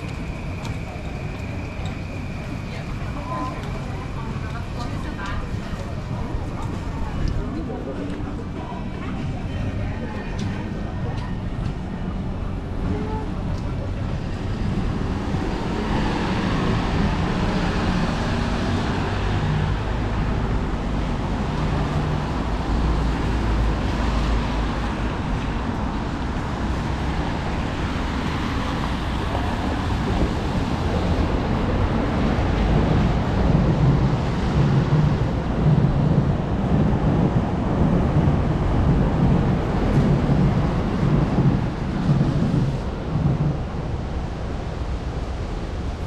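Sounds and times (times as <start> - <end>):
traffic on a wet street: 0.0 - 46.0.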